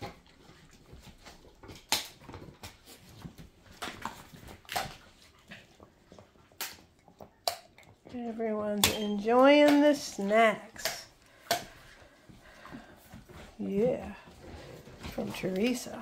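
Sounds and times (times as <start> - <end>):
dogs crunching chew treats: 0.0 - 16.0.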